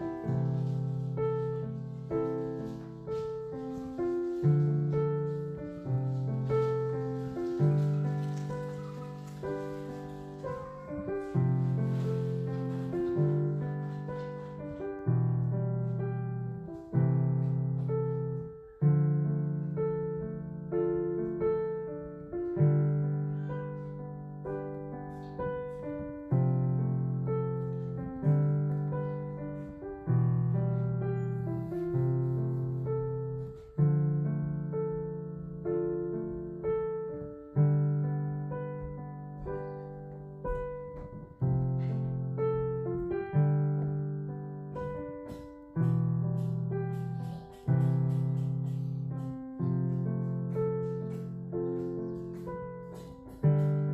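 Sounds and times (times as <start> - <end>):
calm piano music: 0.0 - 53.9.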